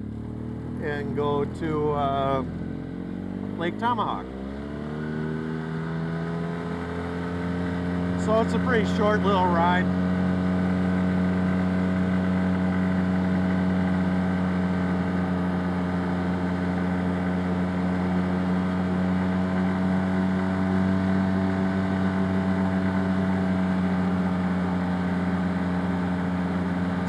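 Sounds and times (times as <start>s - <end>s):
vehicle engine cruising: 0.0s - 27.0s.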